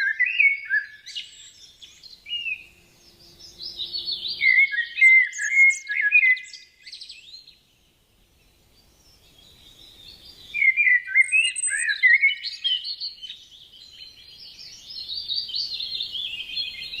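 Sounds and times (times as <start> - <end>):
songbirds twittering and warbling: 0.0 - 17.0.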